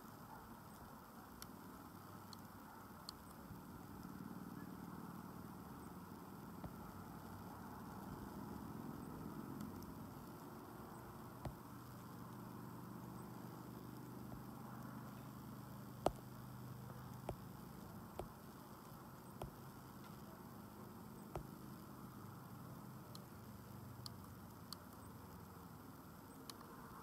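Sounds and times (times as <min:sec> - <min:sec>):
faint low hum and hiss: 0:00.0 - 0:27.0.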